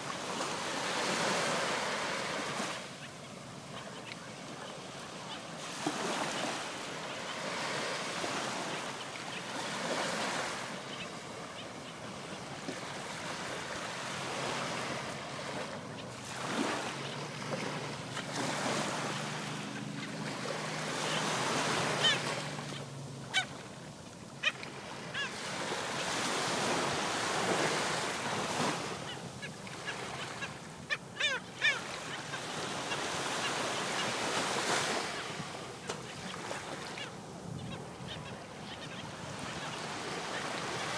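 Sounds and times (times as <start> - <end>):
small waves washing up beach: 0.0 - 40.9.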